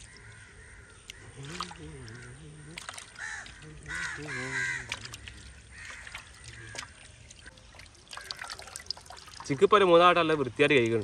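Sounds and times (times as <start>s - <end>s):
birds calling: 0.0s - 10.7s
water sloshing and splashing: 0.0s - 11.0s.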